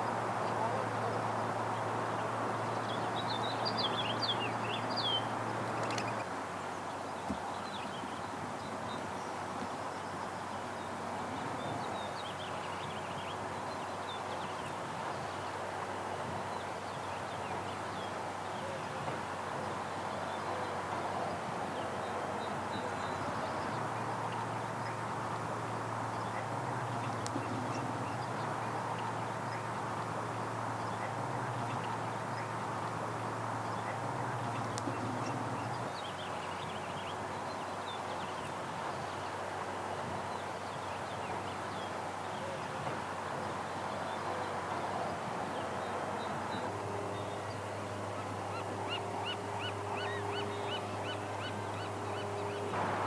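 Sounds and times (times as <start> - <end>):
background hiss: 0.0 - 53.0.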